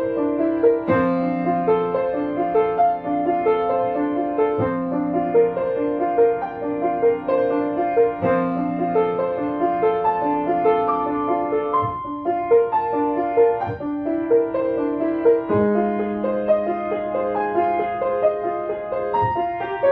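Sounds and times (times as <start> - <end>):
grand piano playing: 0.0 - 19.9.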